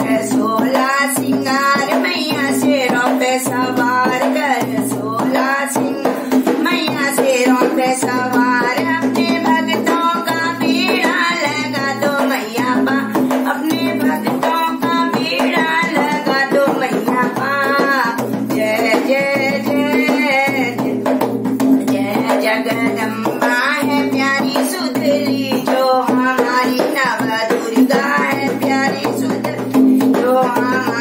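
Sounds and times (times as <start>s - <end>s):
hand drum rhythm: 0.0s - 31.0s
woman singing: 0.0s - 31.0s.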